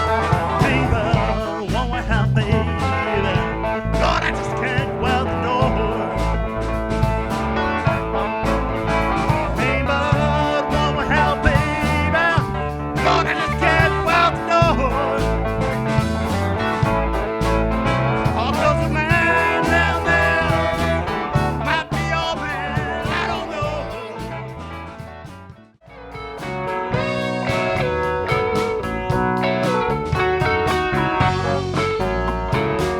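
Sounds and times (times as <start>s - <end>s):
band playing country-rock: 0.0s - 32.9s.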